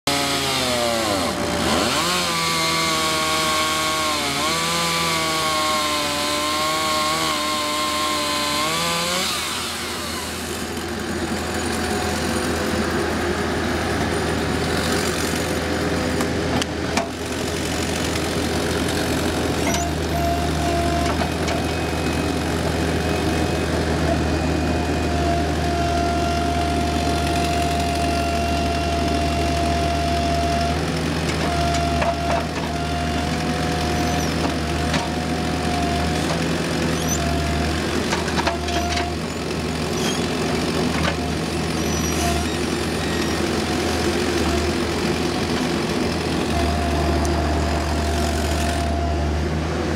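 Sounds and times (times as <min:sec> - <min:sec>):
chainsaw cutting log: 0:00.1 - 0:13.0, 0:14.6 - 0:16.4, 0:17.0 - 0:24.1, 0:25.0 - 0:49.0
mini excavator engine running: 0:00.1 - 0:49.9.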